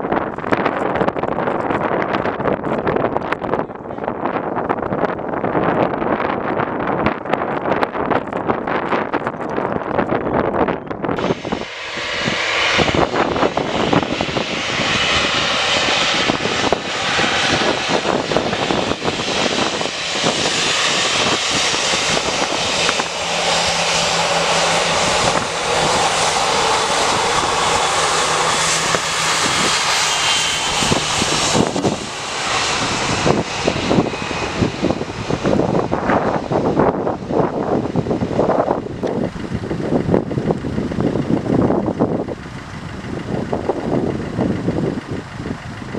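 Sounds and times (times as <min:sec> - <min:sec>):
jet engines passing: 0:00.0 - 0:45.9
wind buffeting microphone: 0:00.0 - 0:45.9.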